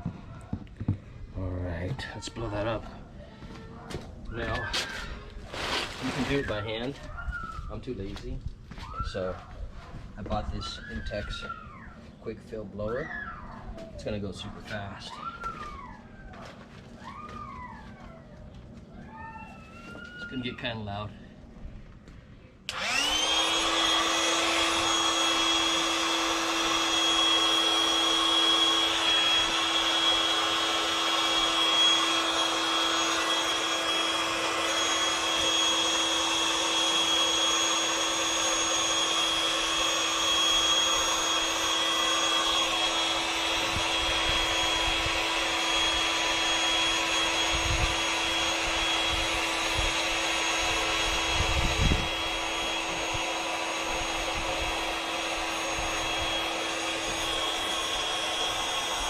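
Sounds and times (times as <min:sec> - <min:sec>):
electric air pump whining: 0:00.0 - 0:13.0, 0:13.6 - 0:59.0.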